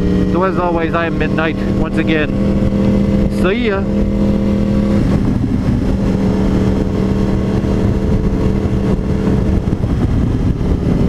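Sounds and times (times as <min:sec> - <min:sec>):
motorcycle engine drone: 0:00.0 - 0:11.0
wind rumble on microphone: 0:00.0 - 0:11.0.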